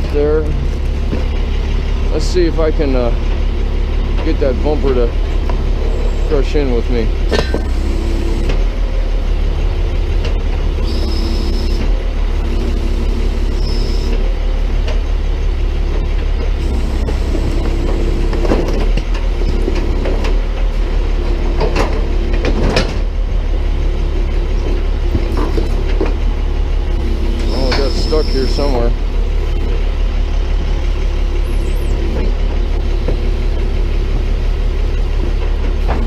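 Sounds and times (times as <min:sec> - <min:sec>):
hydraulic boom hum: 0:00.0 - 0:15.1, 0:15.9 - 0:30.0
truck engine running: 0:00.0 - 0:36.0.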